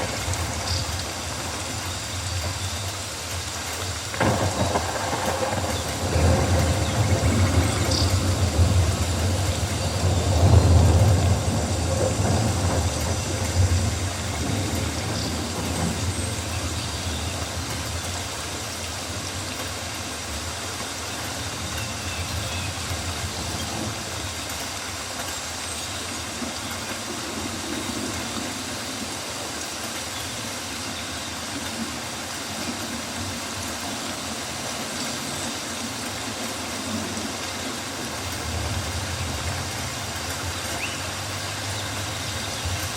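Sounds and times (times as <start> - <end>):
rainforest noise with low rumble: 0.0 - 42.9.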